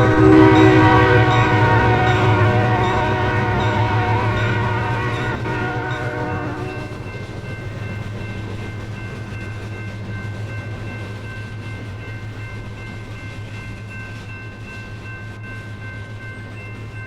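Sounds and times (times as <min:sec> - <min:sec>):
diesel train drone: 0:00.0 - 0:17.0.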